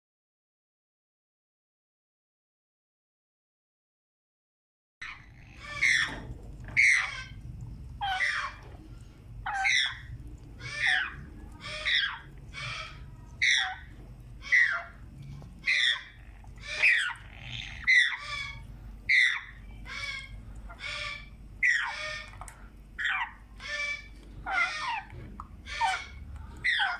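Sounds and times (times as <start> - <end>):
parrot chicks squawking: 5.0 - 26.9.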